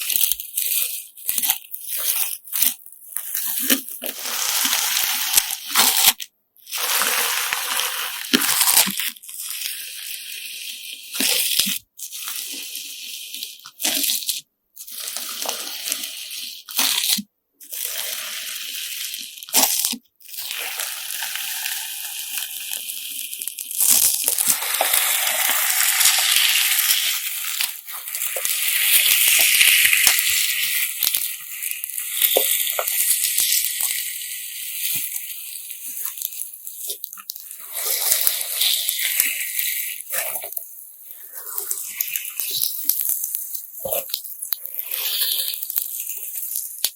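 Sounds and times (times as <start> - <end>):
slime with sand crunching: 0.0 - 9.5, 10.2 - 46.9.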